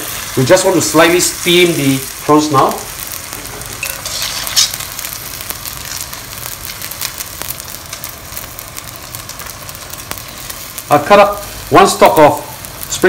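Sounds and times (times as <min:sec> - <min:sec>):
food sizzling in a clay pot: 0:00.0 - 0:13.0.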